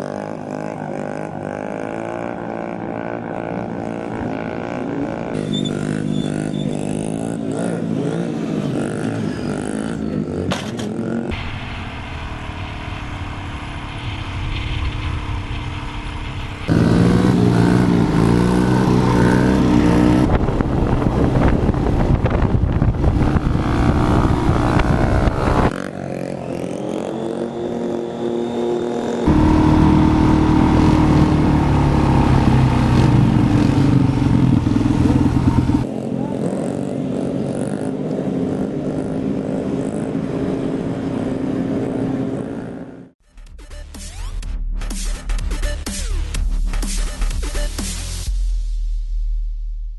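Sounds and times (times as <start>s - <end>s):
pit bike engines revving: 0.0s - 11.4s, 12.3s - 43.1s.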